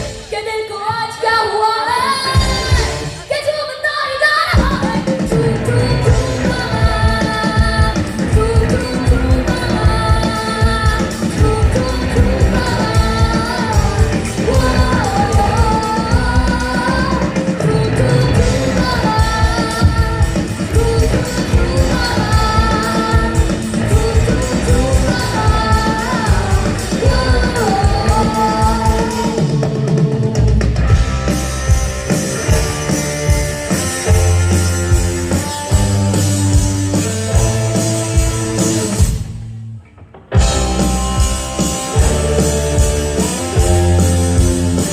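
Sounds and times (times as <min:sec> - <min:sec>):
amplified guitars: 0:00.0 - 0:44.9
live rock band: 0:00.0 - 0:44.9
drum kit beat: 0:02.2 - 0:03.3, 0:04.5 - 0:39.6, 0:40.3 - 0:44.9.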